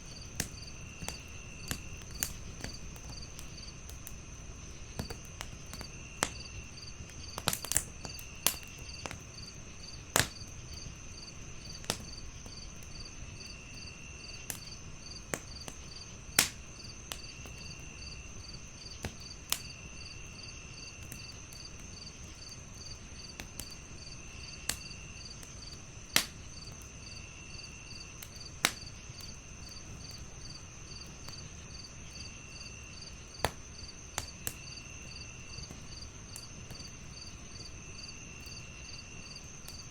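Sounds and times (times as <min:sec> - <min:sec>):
continuous high cricket trill: 0:00.0 - 0:39.9
even cricket chirp: 0:00.0 - 0:39.9
wood fire crackling and popping: 0:00.0 - 0:39.9.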